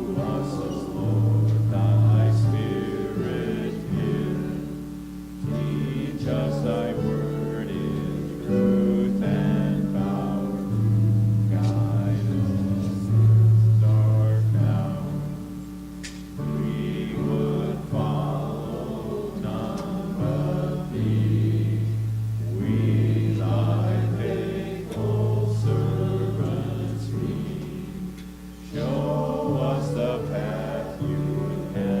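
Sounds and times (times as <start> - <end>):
congregation singing a hymn: 0.0 - 32.0
instrumental accompaniment low notes: 0.0 - 32.0.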